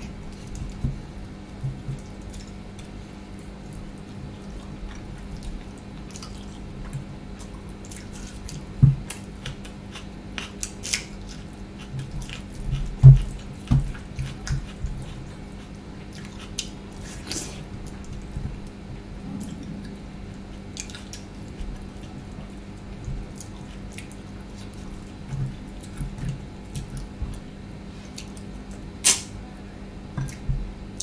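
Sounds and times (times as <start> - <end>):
wet squishing and chewing: 1.6 - 29.2.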